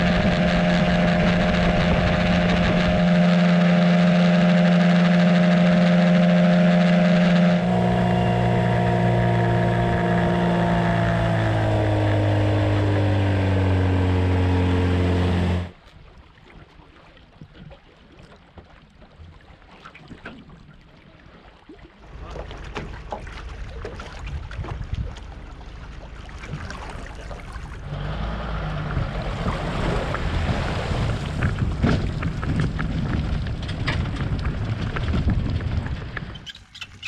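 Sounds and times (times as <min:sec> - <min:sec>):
outboard motor running: 0:00.0 - 0:15.8, 0:22.0 - 0:37.0
water rushing: 0:00.0 - 0:15.8, 0:21.9 - 0:37.0
wind: 0:00.0 - 0:37.0.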